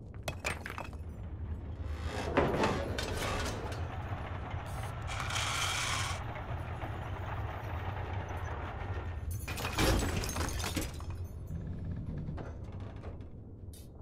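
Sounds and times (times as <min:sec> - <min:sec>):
machine mechanical rumble: 0:01.0 - 0:10.2, 0:10.9 - 0:14.0.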